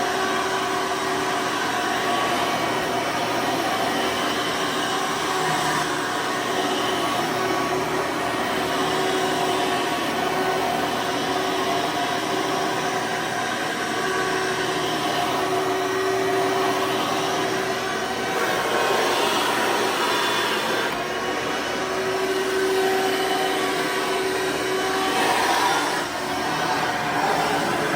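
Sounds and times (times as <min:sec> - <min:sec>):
upright vacuum running: 0:00.0 - 0:27.9.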